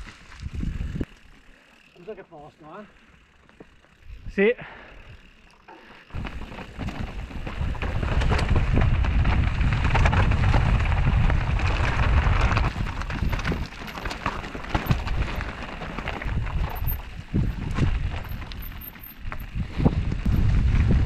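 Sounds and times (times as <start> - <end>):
bike rattling: 0.0 - 21.0
bike tyres rolling over stones: 0.0 - 21.0.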